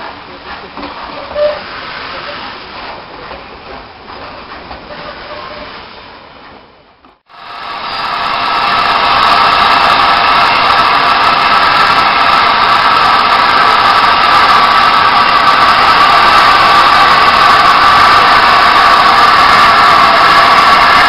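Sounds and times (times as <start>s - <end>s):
steam locomotive hissing steam: 0.0s - 6.5s, 7.3s - 21.0s.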